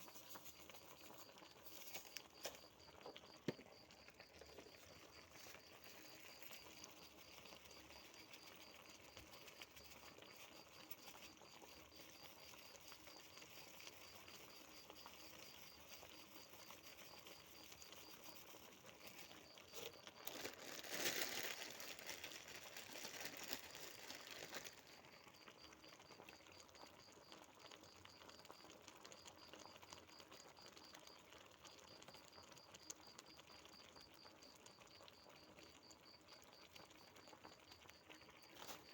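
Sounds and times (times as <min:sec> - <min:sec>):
food crackling while cooking: 0:00.0 - 0:38.9.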